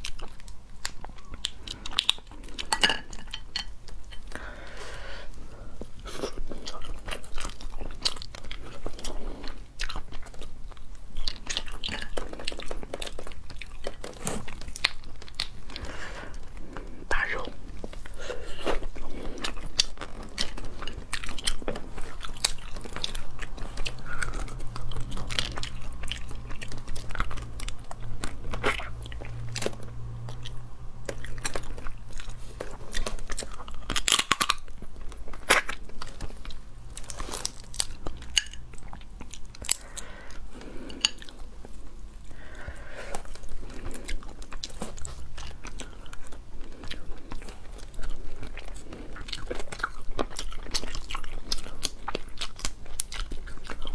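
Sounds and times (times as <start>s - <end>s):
chewing: 0.0s - 53.9s
crab shell crunching: 5.8s - 53.9s.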